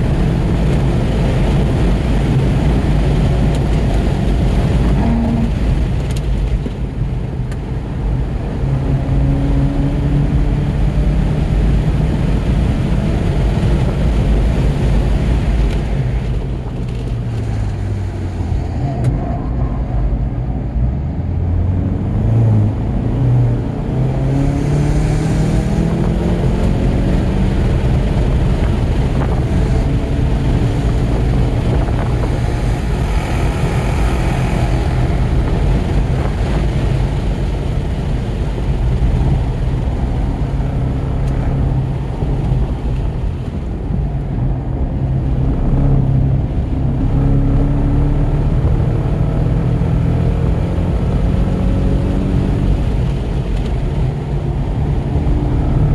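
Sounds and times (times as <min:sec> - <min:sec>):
car engine pulling hard: 0:00.0 - 0:55.9.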